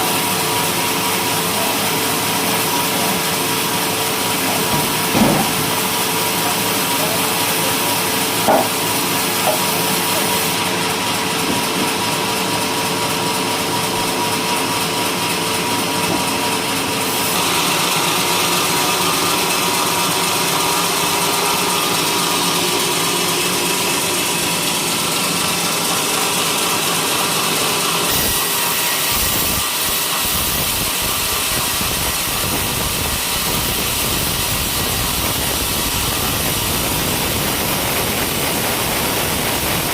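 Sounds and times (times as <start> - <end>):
sawmill sawing log: 0.0 - 39.9.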